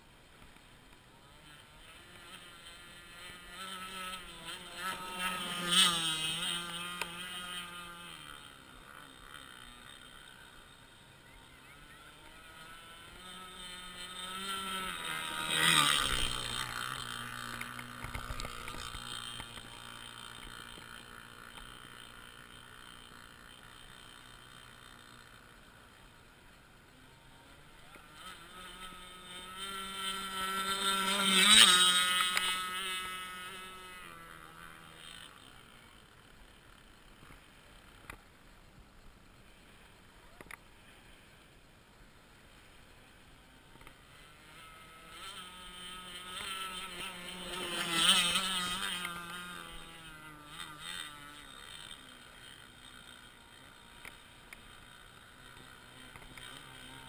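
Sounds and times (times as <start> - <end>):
model speedboat engine whine: 0.0 - 57.0.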